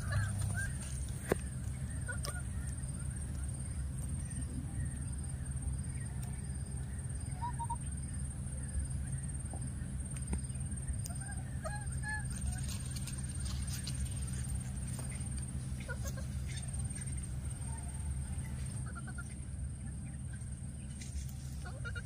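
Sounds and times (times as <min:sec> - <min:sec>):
faint animal calls: 0:00.0 - 0:10.0, 0:10.6 - 0:22.0.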